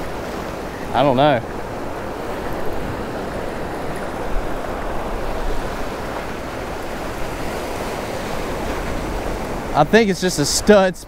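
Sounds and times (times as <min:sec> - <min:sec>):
surf breaking and foaming: 0:00.0 - 0:11.0.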